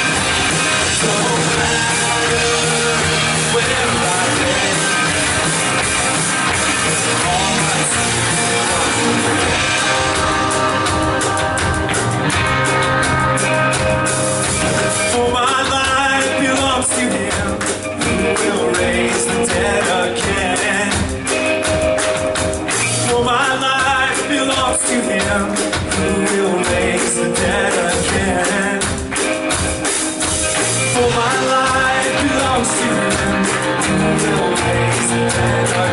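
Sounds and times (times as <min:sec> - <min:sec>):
person singing: 0:00.0 - 0:14.1, 0:14.8 - 0:21.6, 0:22.8 - 0:29.3, 0:30.8 - 0:35.9
guitar: 0:00.0 - 0:35.9
live rock band playing: 0:00.0 - 0:35.9
percussive beat: 0:00.0 - 0:35.9.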